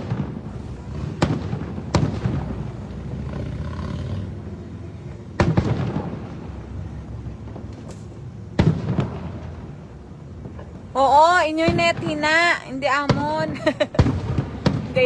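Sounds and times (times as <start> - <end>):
fireworks bursting with echoing rumble: 0.0 - 3.7, 5.2 - 15.0.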